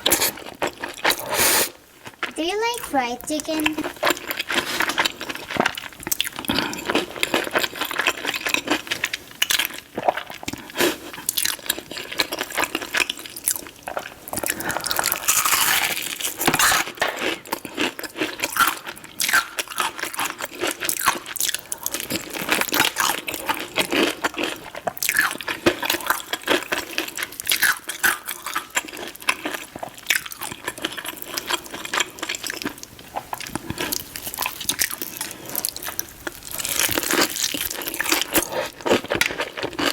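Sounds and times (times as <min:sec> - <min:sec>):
crunching fried chicken bites: 0:00.0 - 0:02.8, 0:03.4 - 0:39.9.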